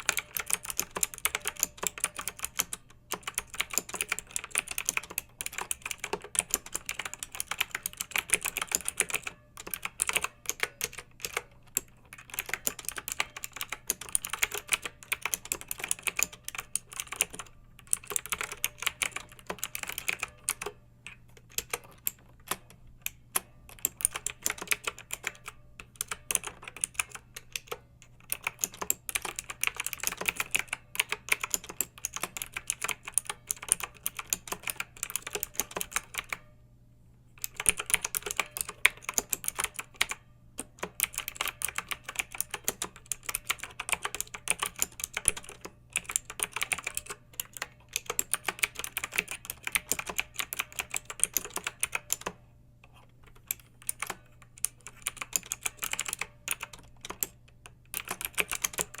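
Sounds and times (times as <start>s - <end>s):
mechanical keyboard typing: 0.0s - 36.5s, 37.4s - 59.0s.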